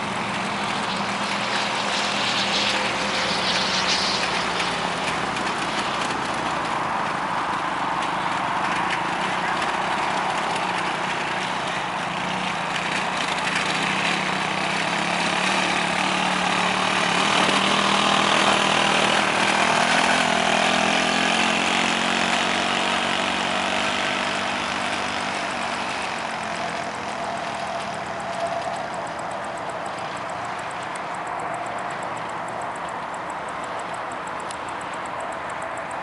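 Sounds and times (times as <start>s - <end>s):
quad bike engine running: 0.0s - 36.0s.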